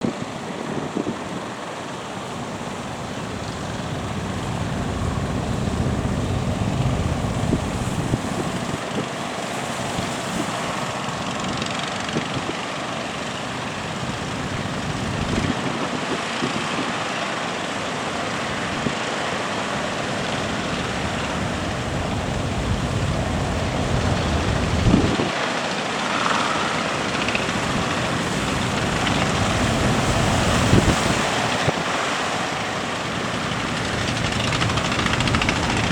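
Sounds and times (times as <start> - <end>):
heavy wind: 0.0 - 35.9
surf: 1.0 - 35.9
boat engine running: 1.3 - 15.9, 18.0 - 25.4, 26.2 - 35.9.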